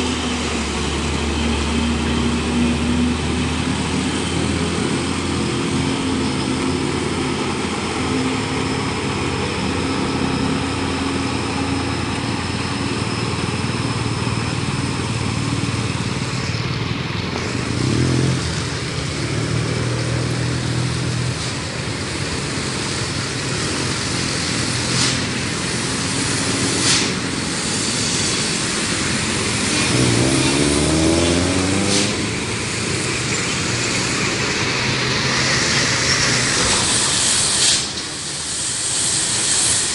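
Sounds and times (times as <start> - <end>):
traffic engines passing: 0.0 - 39.9.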